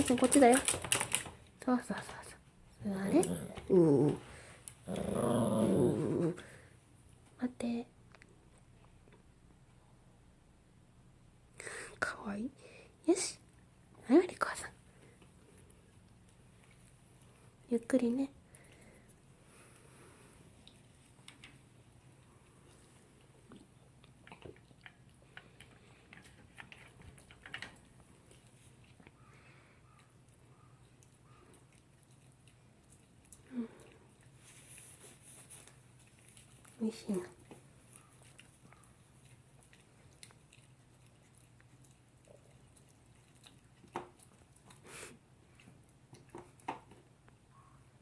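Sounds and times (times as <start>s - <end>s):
dog chewing and crunching food: 0.0s - 7.2s, 14.6s - 47.8s.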